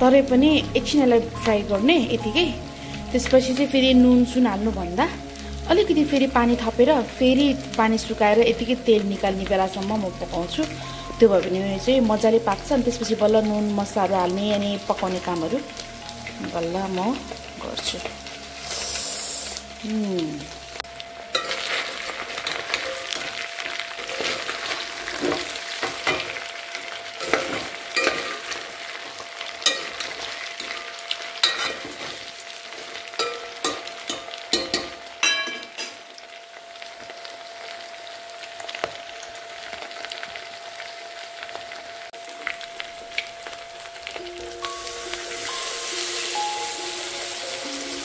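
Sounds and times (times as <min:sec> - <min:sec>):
meat sizzling in a pot: 0:00.0 - 0:48.0.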